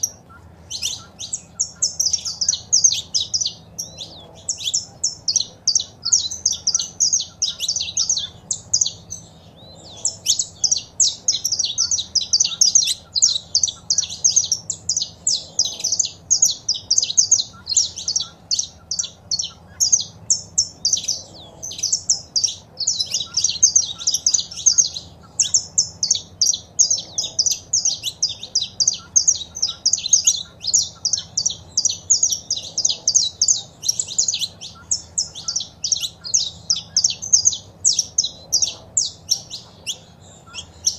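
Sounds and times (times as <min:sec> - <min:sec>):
finches calling and singing: 0:00.0 - 0:40.9.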